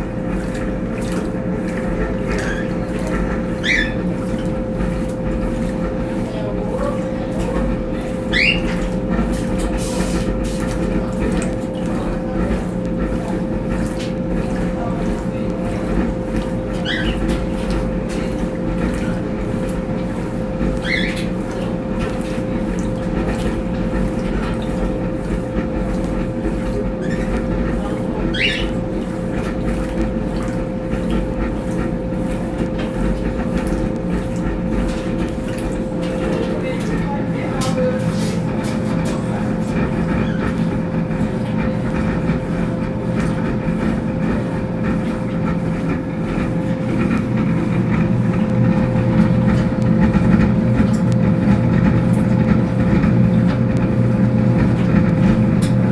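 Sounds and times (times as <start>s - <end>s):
washing machine running: 0.0s - 55.9s.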